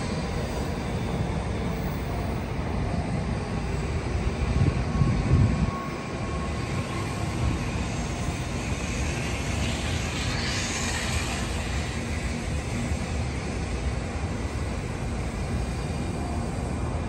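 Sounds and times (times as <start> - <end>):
city hum: 0.0 - 17.0
train rumbling: 0.0 - 17.0
wheel and air hiss: 0.0 - 17.0.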